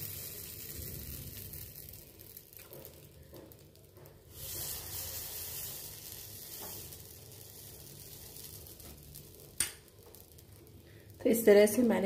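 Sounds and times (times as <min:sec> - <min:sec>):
batter sizzling in a hot pan: 0:00.0 - 0:12.0.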